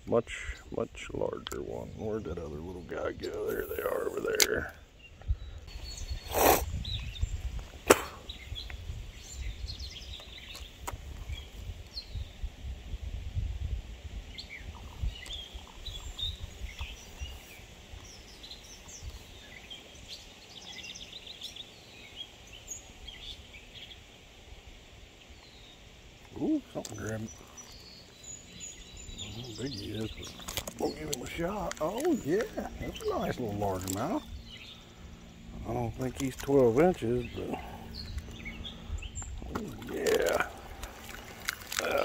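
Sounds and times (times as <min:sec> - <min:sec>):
small birds chirping: 0:00.0 - 0:12.7, 0:14.1 - 0:42.0.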